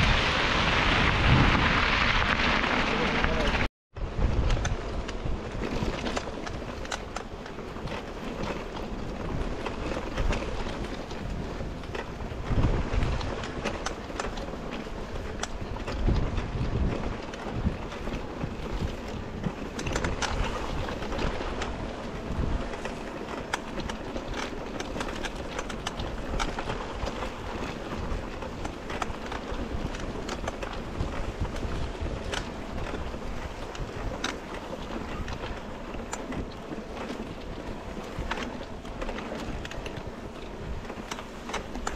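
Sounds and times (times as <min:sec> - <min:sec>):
bike clicks and rattles: 0:00.0 - 0:41.9
bike tyre noise on grass: 0:00.0 - 0:41.9
wind buffeting microphone: 0:00.0 - 0:41.9.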